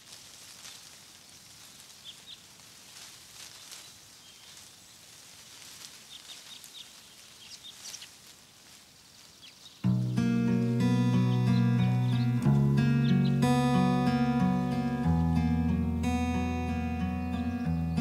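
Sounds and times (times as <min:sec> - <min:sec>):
soft steady high hiss: 0:00.0 - 0:18.0.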